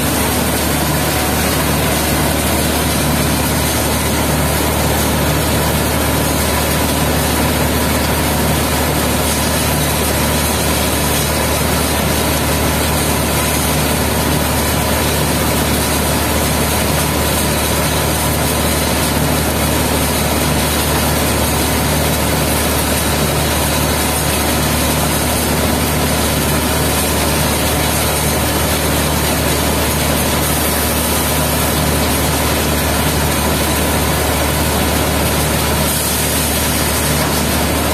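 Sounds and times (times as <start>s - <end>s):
loud machinery drone: 0.0s - 37.9s.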